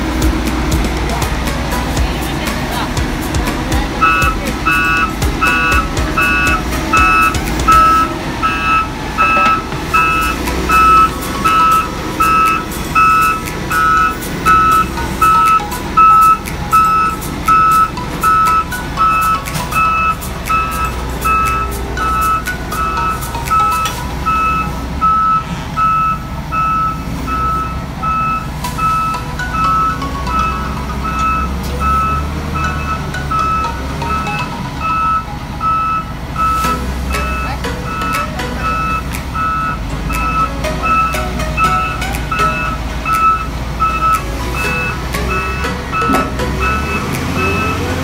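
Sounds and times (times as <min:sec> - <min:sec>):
diesel excavator engine running: 0:00.0 - 0:48.0
reversing alarm beeping: 0:03.0 - 0:48.0.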